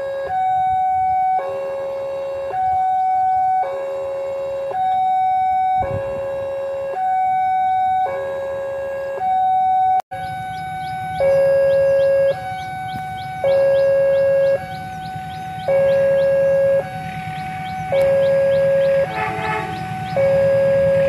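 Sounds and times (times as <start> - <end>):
two-tone crossing alarm: 0.0 - 21.0.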